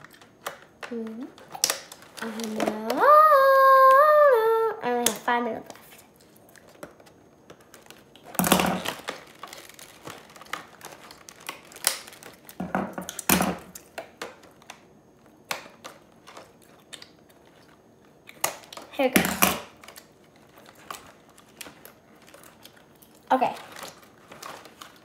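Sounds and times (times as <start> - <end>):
plastic packaging crinkling: 0.0 - 4.2, 4.9 - 25.0.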